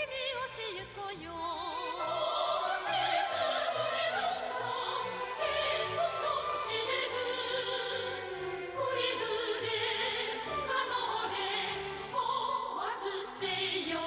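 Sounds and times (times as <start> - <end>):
operatic orchestral music: 1.4 - 12.8.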